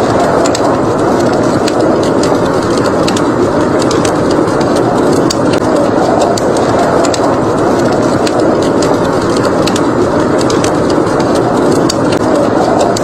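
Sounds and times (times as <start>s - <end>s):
blizzard wind rushing: 0.0s - 13.0s
fireplace crackling and popping: 0.0s - 13.0s.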